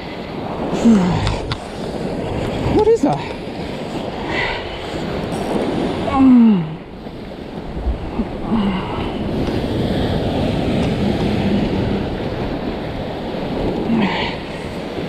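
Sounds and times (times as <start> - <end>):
ocean surf breaking on rocks: 0.0 - 15.0
wind buffeting microphone: 0.0 - 15.0.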